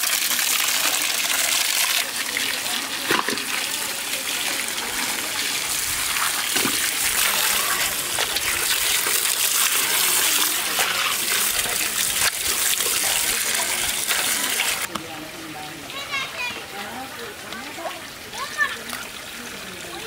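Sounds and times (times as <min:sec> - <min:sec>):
running water splashing: 0:00.0 - 0:20.0.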